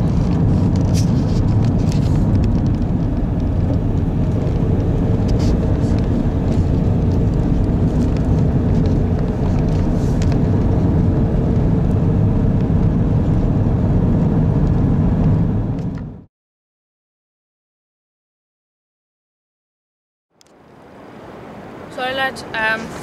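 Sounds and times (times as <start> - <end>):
car engine and tyres rumbling: 0.0 - 16.3, 20.4 - 23.0.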